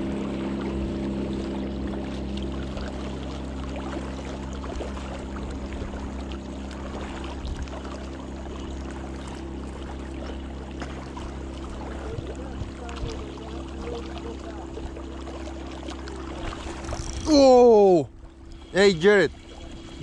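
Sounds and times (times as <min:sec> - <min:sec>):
steady low drone: 0:00.0 - 0:20.0
small waves lapping against rocks: 0:01.4 - 0:20.0.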